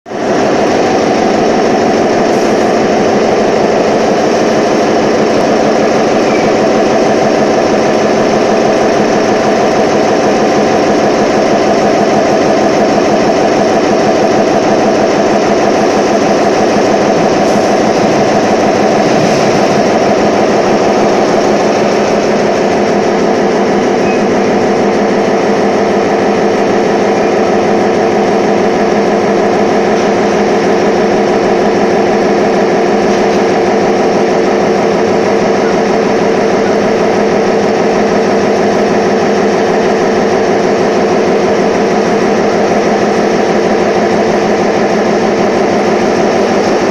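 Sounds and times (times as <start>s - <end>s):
machinery droning: 0.2s - 46.9s.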